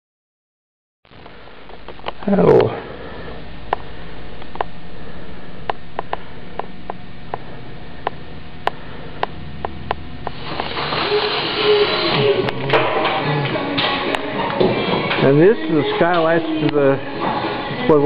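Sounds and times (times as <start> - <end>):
steady hiss: 1.1 - 18.0.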